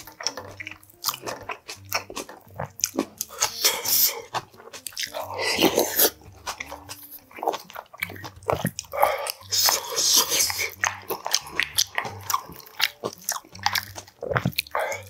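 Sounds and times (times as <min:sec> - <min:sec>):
chewing: 0:00.0 - 0:15.0
slurping: 0:00.0 - 0:15.0.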